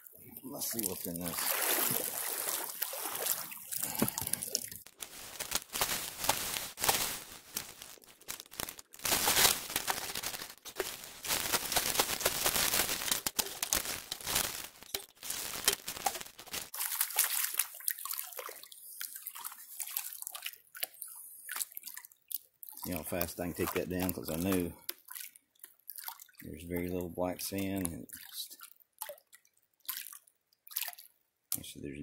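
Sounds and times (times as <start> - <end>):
light water splashing: 0.0 - 5.6, 10.8 - 31.7
water and gravel sloshing in pan: 0.0 - 31.1.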